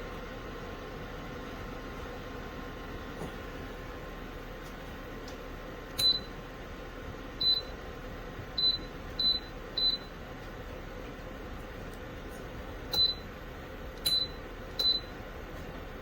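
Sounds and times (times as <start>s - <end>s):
heater fan humming: 0.0s - 16.0s.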